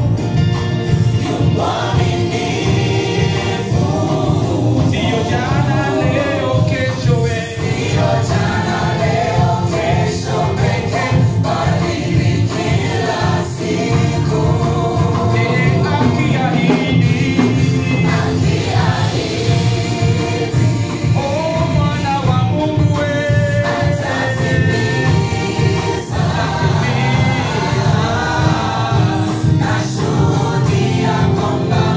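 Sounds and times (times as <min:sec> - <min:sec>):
choir singing gospel song: 0:00.0 - 0:31.9.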